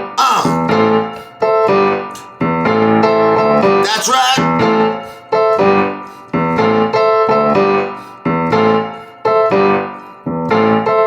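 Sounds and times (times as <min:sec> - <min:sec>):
electric piano chords: 0:00.0 - 0:11.0.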